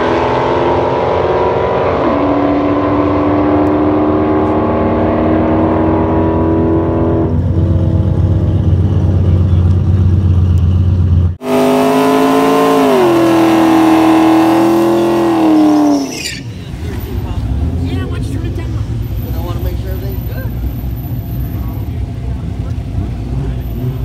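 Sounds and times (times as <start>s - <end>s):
car burnout with tyres spinning: 0.0s - 24.0s
loud car engine: 0.0s - 24.0s.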